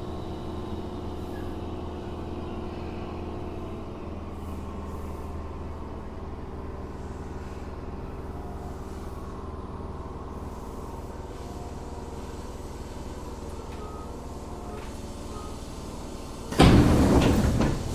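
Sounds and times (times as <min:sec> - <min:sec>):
train wheels and motors rumbling: 0:00.0 - 0:17.9.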